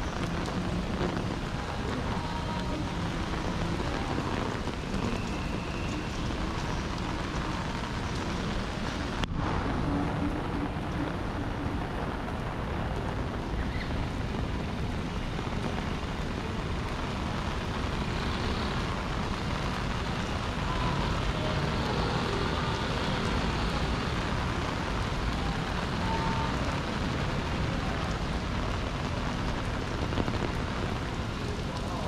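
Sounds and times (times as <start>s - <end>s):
steady rain: 0.0s - 32.0s
traffic: 0.0s - 32.0s.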